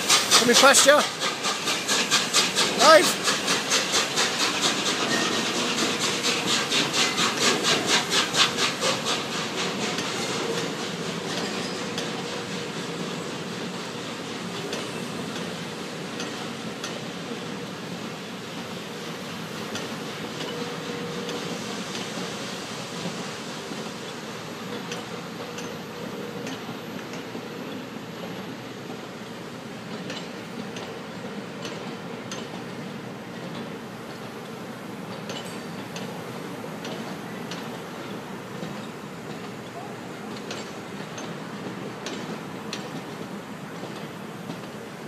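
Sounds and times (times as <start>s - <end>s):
steam locomotive exhaust beats: 0.0s - 45.0s
train rolling with faint clicks: 0.0s - 45.0s.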